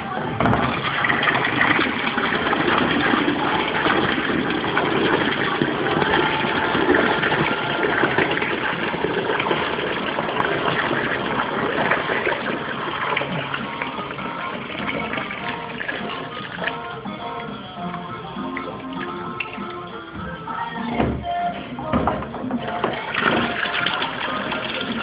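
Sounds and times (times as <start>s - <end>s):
water gushing into bucket: 0.0s - 20.6s, 22.6s - 25.0s.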